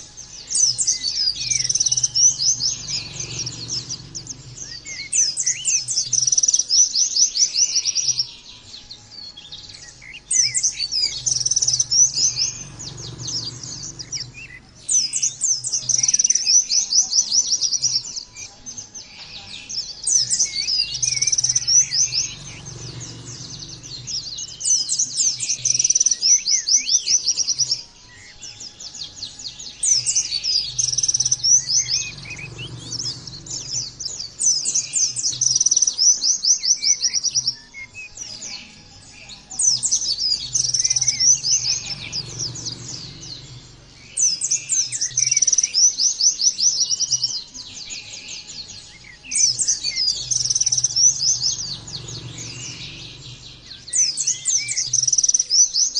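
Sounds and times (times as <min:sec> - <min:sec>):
bird chattering trills: 0:00.0 - 0:08.4, 0:09.7 - 0:47.6, 0:48.9 - 0:55.9.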